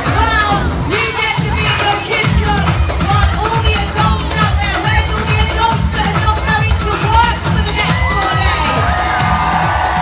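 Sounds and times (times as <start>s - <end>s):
crowd shouting and cheering: 0.0s - 10.0s
party music with heavy bass: 0.0s - 10.0s.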